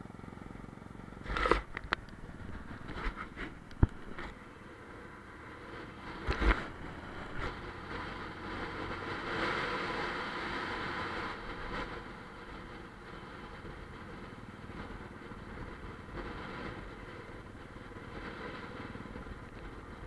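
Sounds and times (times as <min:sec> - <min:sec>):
motorcycle engine running: 0:00.0 - 0:20.0
road and air noise: 0:00.0 - 0:20.0.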